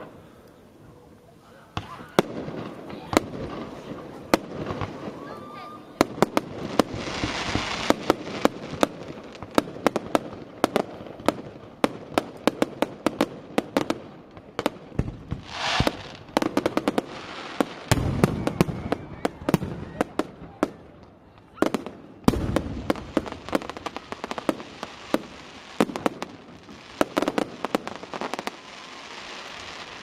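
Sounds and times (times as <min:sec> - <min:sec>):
fireworks bangs: 0:00.0 - 0:00.4, 0:01.7 - 0:30.0
fireworks hiss: 0:00.0 - 0:19.9, 0:22.3 - 0:30.0.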